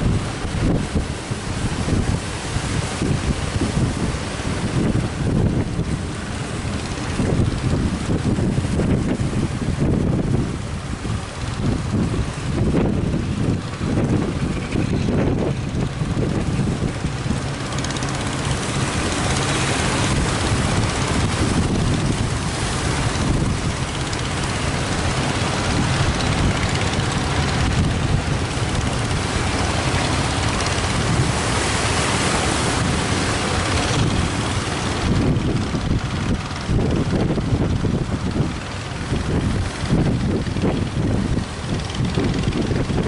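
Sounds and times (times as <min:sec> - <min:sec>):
breaking surf: 0:00.0 - 0:43.0
low engine hum: 0:00.0 - 0:43.0
wind buffeting microphone: 0:00.0 - 0:43.0.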